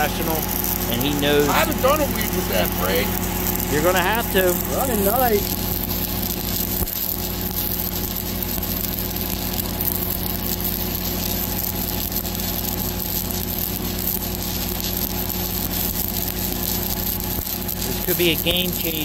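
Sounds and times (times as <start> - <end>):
welding arc crackling: 0.0 - 19.0
welding machine engine hum: 0.0 - 19.0.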